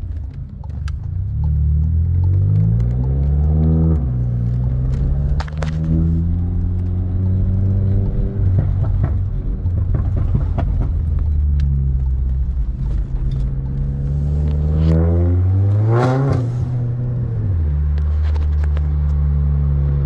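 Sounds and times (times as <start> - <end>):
turbocharged car engine accelerating: 0.0 - 20.0.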